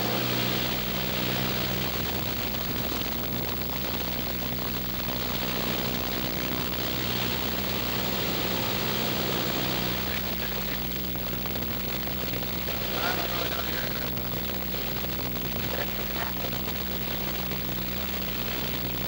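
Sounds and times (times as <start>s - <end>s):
propeller aircraft engine droning: 0.0s - 19.0s
rush of air noise: 0.0s - 19.0s.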